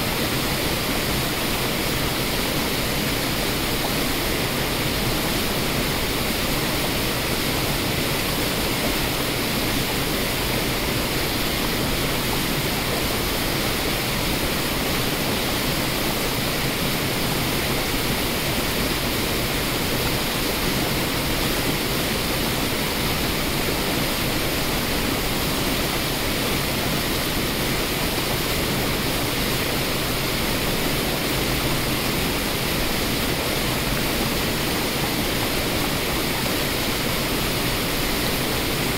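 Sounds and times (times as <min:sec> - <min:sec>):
waterfall rushing over rock: 0:00.0 - 0:38.9.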